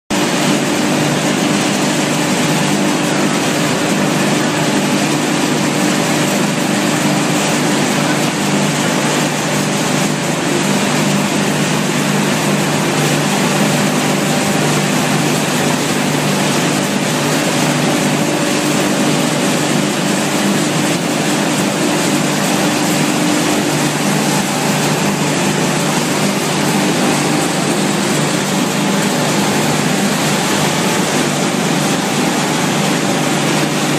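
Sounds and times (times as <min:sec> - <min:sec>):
factory machinery din: 0:00.1 - 0:33.9.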